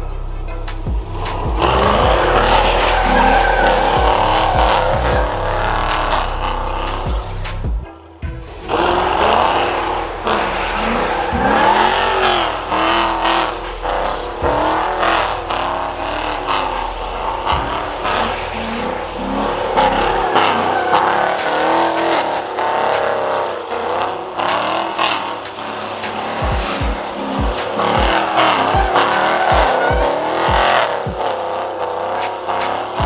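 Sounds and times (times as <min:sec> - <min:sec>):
car engine revving hard: 0:00.0 - 0:07.8, 0:08.6 - 0:33.0.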